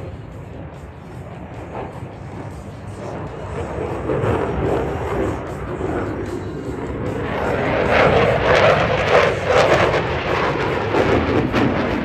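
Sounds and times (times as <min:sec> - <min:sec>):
fighter jet flying past: 0:00.0 - 0:12.0.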